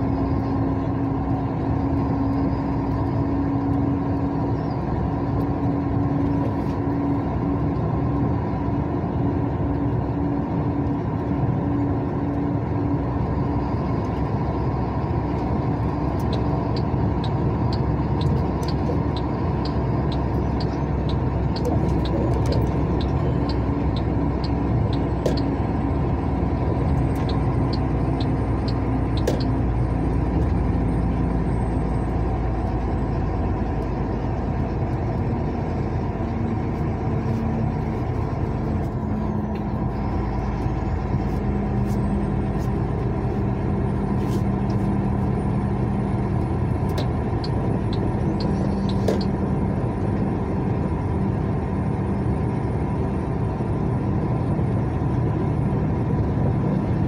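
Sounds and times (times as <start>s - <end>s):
vehicle engine hum and road noise: 0.0s - 57.0s.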